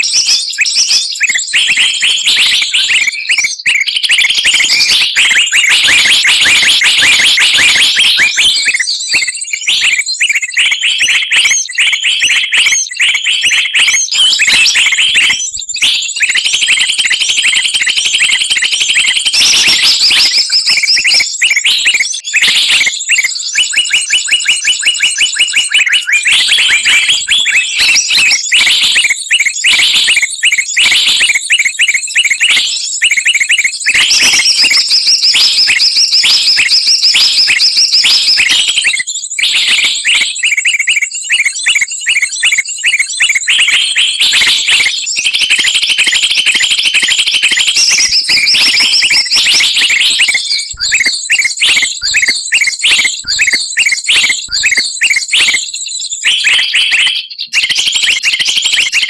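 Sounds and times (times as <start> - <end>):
songbirds chirping and trilling: 0.0 - 58.1.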